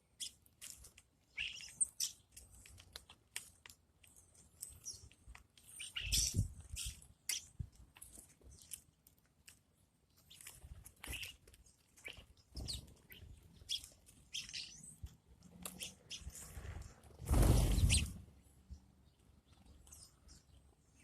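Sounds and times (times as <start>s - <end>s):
faint bird chirping: 1.2s - 2.8s, 4.1s - 8.9s, 10.1s - 21.0s.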